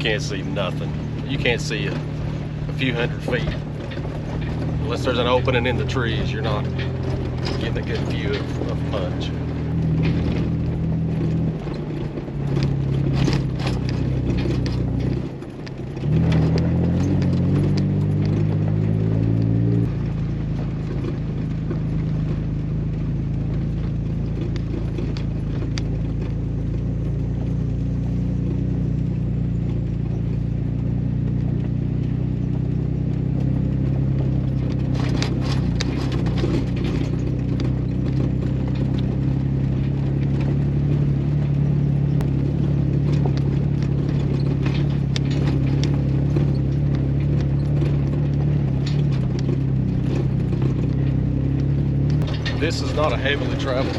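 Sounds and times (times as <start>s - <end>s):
car engine running: 0.0s - 53.9s
tyres crunching on gravel: 0.0s - 53.9s.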